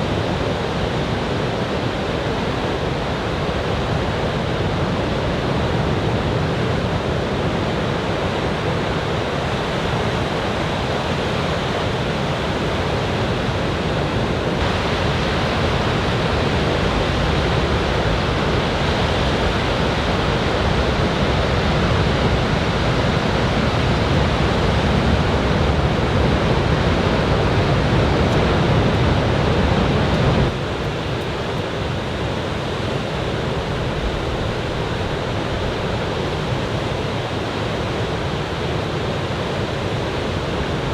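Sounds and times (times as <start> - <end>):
ocean waves rushing: 0.0 - 40.9.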